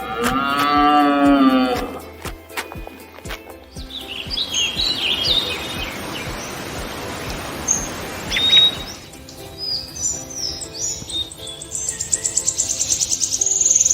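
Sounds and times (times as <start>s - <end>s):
steady outdoor hiss: 0.0s - 13.9s
small birds chirping: 2.6s - 13.9s.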